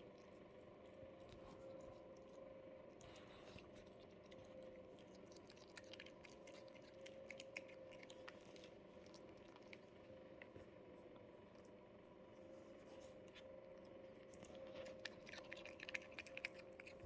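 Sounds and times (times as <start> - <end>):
cat chewing with crunching clicks: 0.0 - 17.0
faint hum: 0.0 - 17.0.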